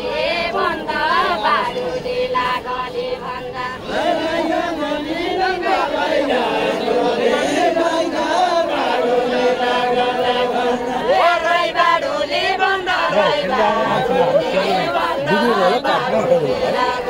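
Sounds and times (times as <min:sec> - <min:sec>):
group singing unaccompanied: 0:00.0 - 0:17.0.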